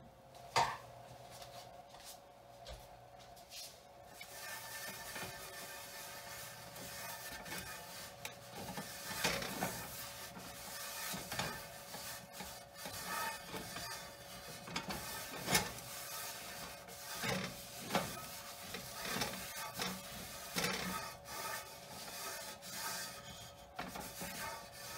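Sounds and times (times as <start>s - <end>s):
cloth rubbing in metal pan: 3.6s - 24.9s.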